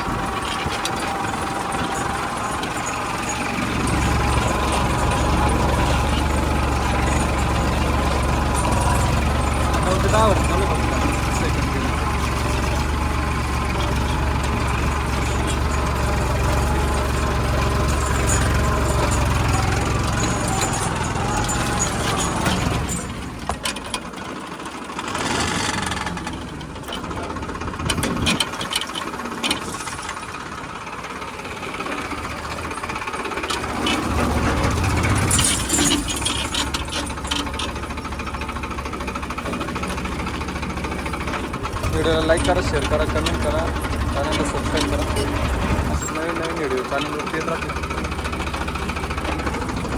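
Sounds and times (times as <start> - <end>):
diesel tractor engine rumble: 0.0 - 49.9.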